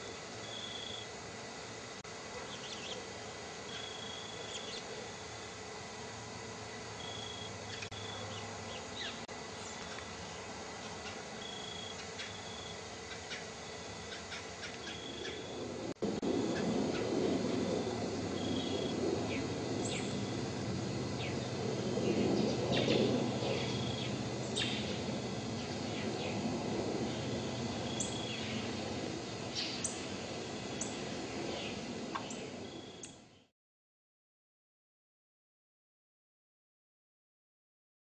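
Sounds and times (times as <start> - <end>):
steady hiss: 0.0 - 33.4.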